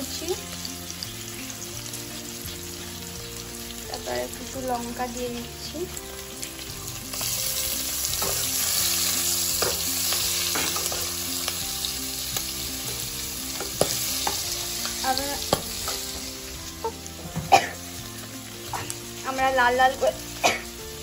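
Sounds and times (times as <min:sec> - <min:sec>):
vegetables frying in hot oil: 0:00.0 - 0:21.0.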